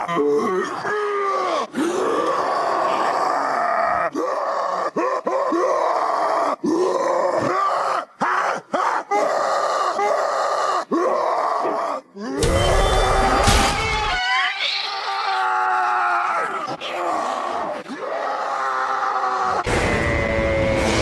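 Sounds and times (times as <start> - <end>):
man grunting and groaning: 0.0 - 12.5, 15.8 - 21.0.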